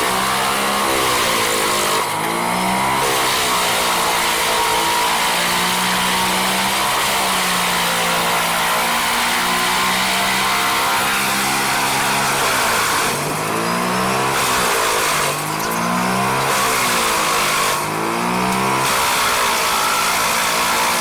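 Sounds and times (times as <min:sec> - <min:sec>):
machine engine running under load: 0:00.0 - 0:21.0.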